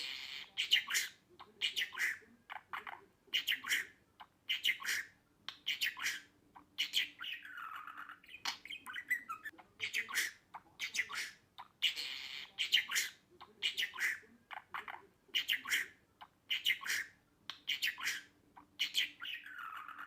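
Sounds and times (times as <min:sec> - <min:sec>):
budgerigar chattering: 0:00.0 - 0:20.0.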